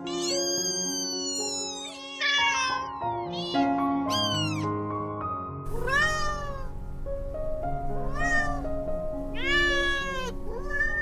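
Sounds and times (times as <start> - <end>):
cat meowing: 0.0 - 4.6, 5.7 - 11.0
soft background music: 0.0 - 11.0.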